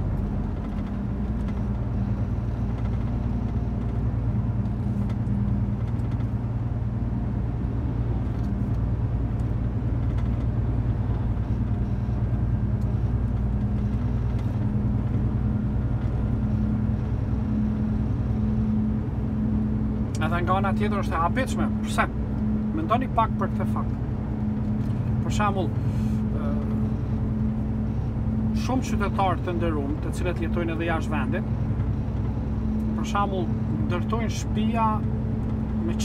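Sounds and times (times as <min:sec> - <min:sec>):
car engine and road drone: 0:00.0 - 0:36.0.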